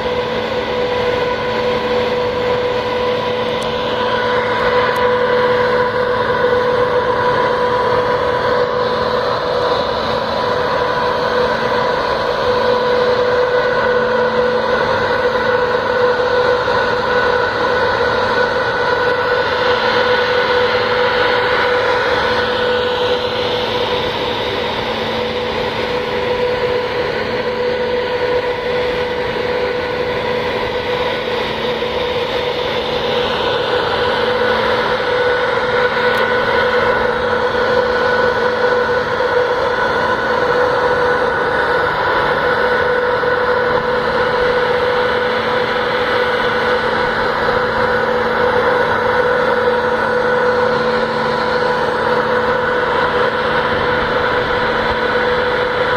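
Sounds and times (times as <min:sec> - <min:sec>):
ferry engines droning: 0:00.0 - 0:55.9.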